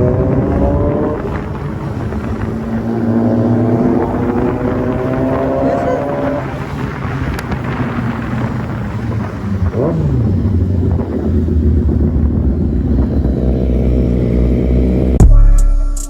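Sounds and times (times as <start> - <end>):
motorcycle engine rumbling: 0.0 - 15.8.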